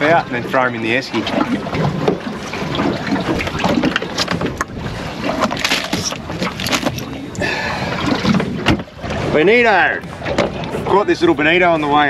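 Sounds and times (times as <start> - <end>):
water slapping against boat hull: 0.0 - 12.0
wind on microphone: 1.4 - 11.0.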